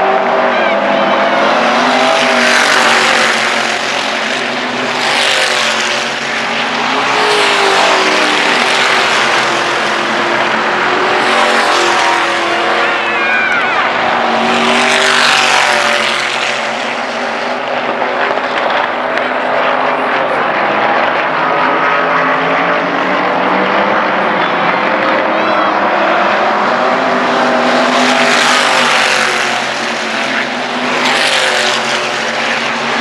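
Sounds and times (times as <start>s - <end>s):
race car engines passing: 0.0s - 33.0s.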